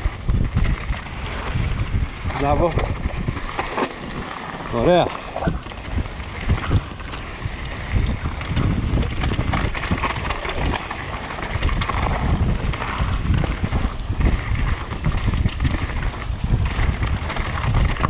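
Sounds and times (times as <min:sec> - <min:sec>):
bike rattling over bumps: 0:00.0 - 0:18.0
bike tyres on dirt and stones: 0:00.0 - 0:18.0
wind rumbling on microphone: 0:00.0 - 0:18.0.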